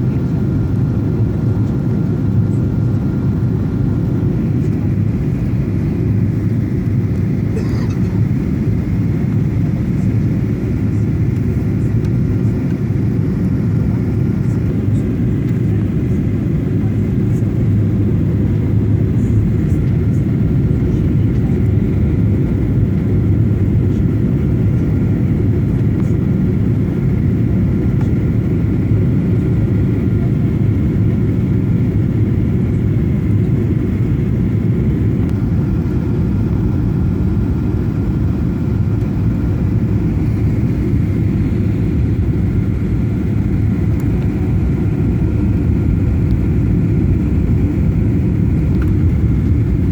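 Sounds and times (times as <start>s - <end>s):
faint steady whine: 0.0s - 49.9s
jet engine cabin rumble: 0.0s - 49.9s.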